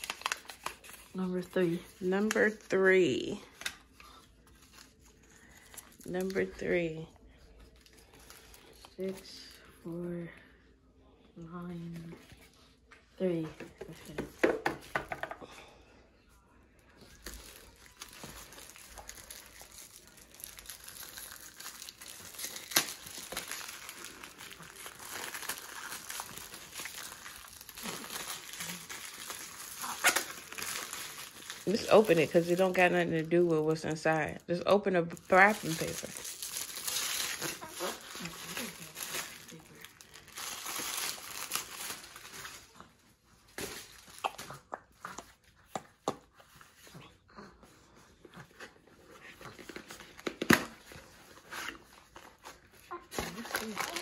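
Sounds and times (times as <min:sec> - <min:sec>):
wrapping paper crinkling and tearing: 0:00.0 - 0:09.8, 0:17.0 - 0:45.7, 0:48.5 - 0:54.0.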